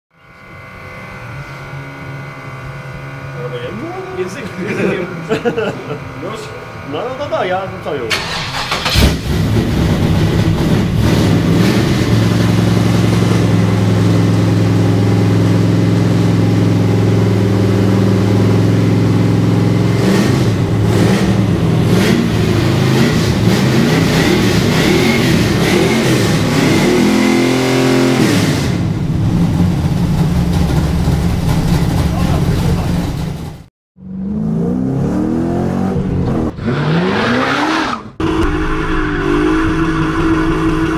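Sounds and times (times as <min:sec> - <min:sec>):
unmuffled car engine revving: 0:00.6 - 0:40.9.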